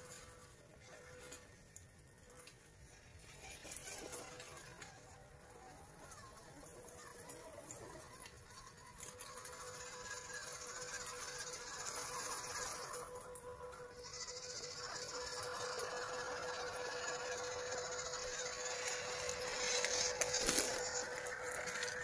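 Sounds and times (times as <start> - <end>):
toy truck electric motors whining: 0.0 - 22.0.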